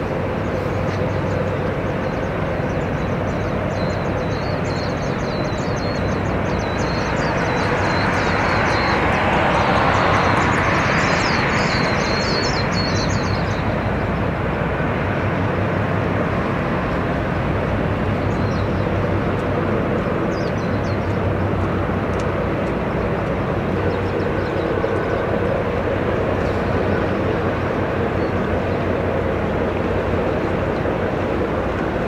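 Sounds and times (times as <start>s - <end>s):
ship engines droning: 0.0s - 32.0s
wide rushing noise: 0.0s - 32.0s.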